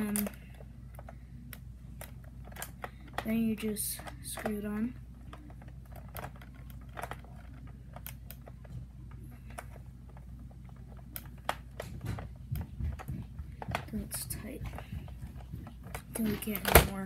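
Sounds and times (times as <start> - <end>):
low steady hum: 0.0 - 17.0
plastic clicks and scrapes: 0.0 - 17.0.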